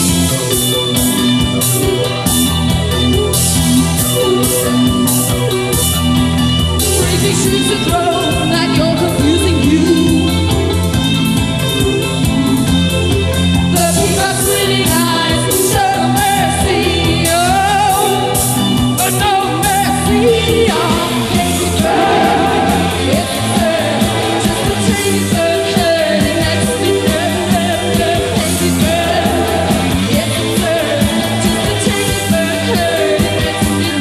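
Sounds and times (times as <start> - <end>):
rock band playing: 0.0 - 34.0.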